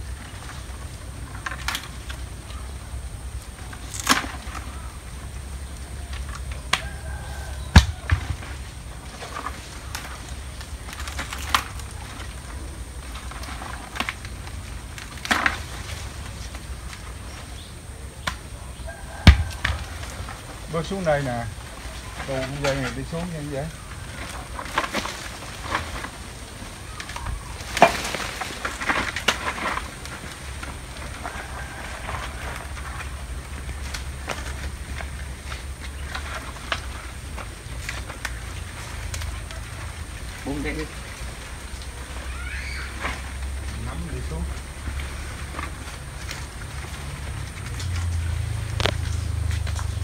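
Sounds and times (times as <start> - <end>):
dry fronds snapping: 0.0 - 2.7, 3.5 - 50.0.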